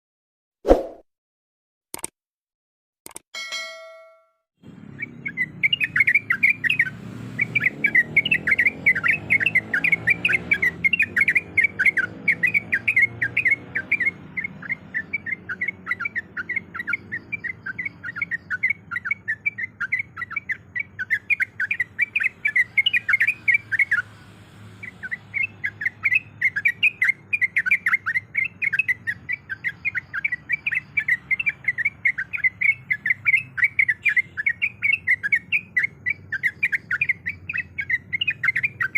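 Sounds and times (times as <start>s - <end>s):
bird chattering song: 4.8s - 38.9s.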